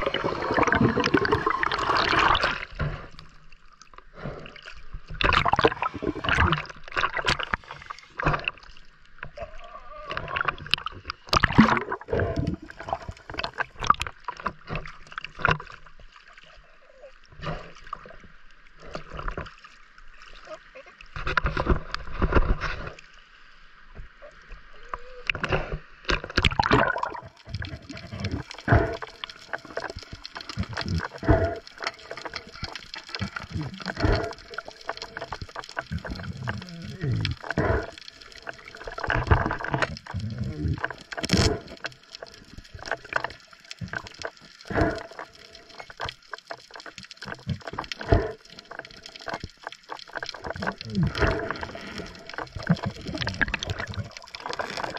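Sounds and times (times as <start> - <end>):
sea water sloshing and splashing: 0.0 - 54.9.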